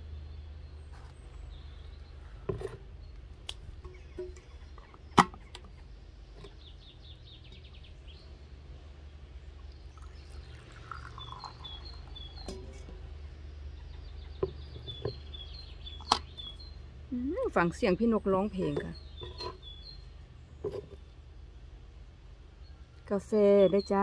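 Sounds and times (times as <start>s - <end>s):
birds chirping: 0.0s - 24.0s
low steady rumble: 0.0s - 24.0s.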